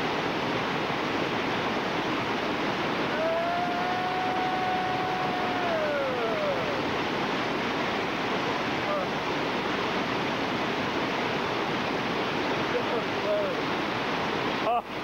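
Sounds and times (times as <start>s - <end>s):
roar of waterfall whitewater: 0.0s - 15.0s.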